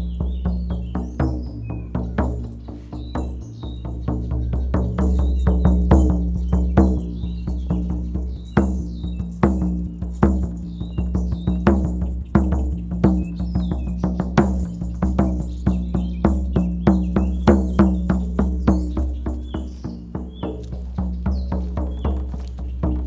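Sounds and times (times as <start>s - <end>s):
frame drum beaten by hand: 0.0s - 23.0s.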